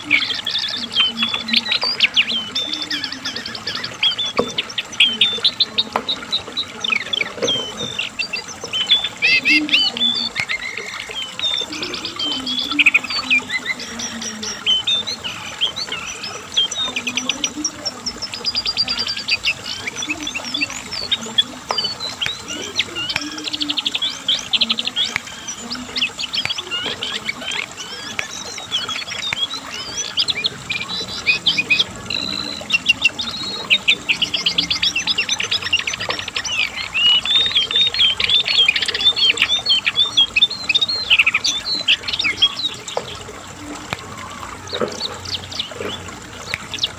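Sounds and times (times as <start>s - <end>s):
songbird singing trills and whistles: 0.0s - 46.9s.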